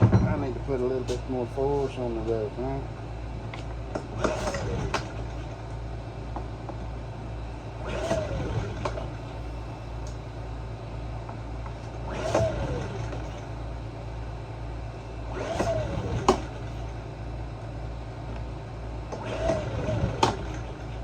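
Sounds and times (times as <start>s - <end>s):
generator recoil starter whir: 0.0s - 21.0s
steady low hum: 0.0s - 21.0s.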